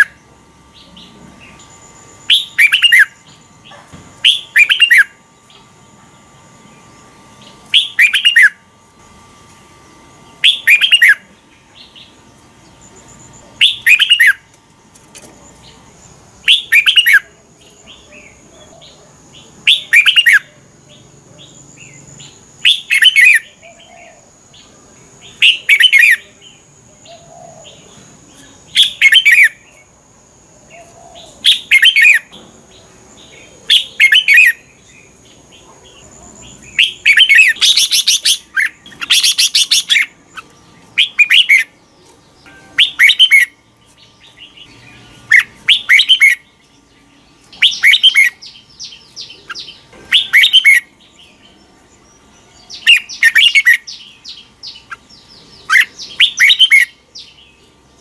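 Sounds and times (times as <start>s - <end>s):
bird singing warbling phrases: 0.0s - 5.7s, 6.4s - 8.7s, 10.2s - 14.5s, 15.4s - 29.9s, 30.6s - 58.0s.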